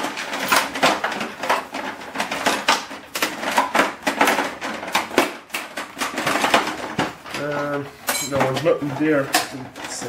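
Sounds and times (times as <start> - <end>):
printer parts clattering: 0.0 - 10.0.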